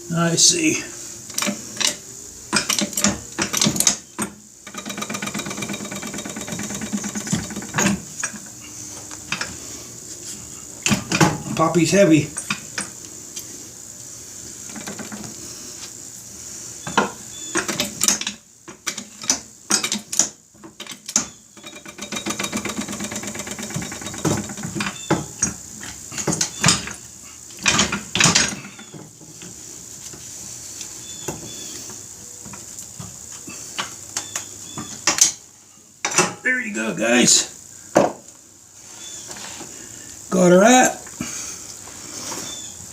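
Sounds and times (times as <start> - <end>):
steady hiss: 0.0 - 42.9.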